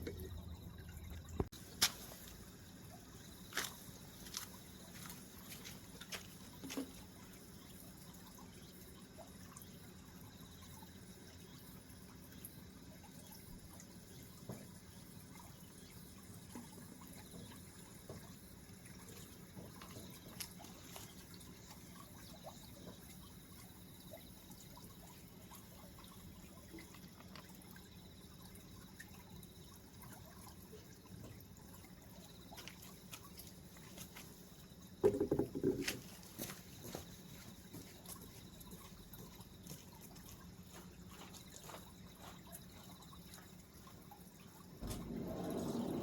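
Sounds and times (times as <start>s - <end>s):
low steady hum: 0.0s - 35.2s, 36.0s - 46.0s
water trickling and dripping: 0.0s - 46.0s.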